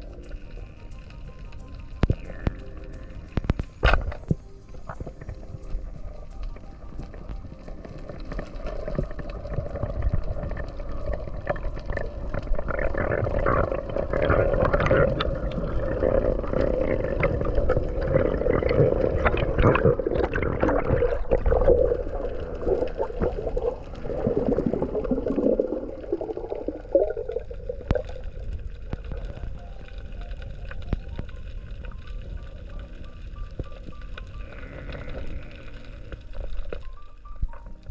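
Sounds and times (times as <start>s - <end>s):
underwater gurgling: 0.0s - 37.9s.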